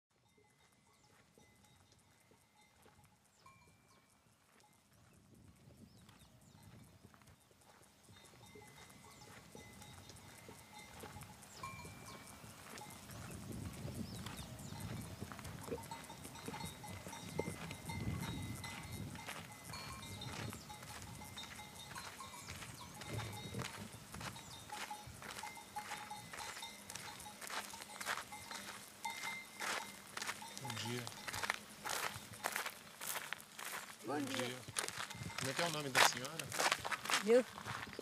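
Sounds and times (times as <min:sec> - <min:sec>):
small bells clinking: 0:00.1 - 0:38.0.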